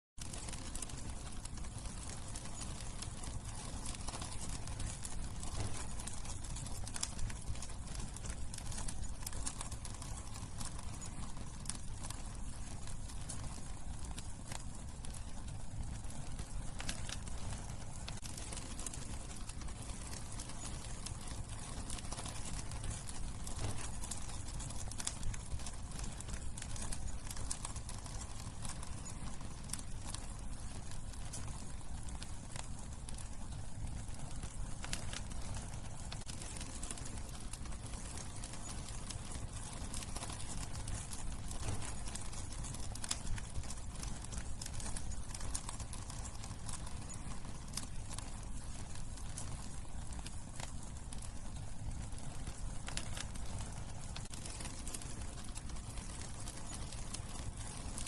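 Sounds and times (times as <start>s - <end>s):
low rumble of flames: 0.2s - 58.0s
wood crackling and popping: 0.2s - 58.0s.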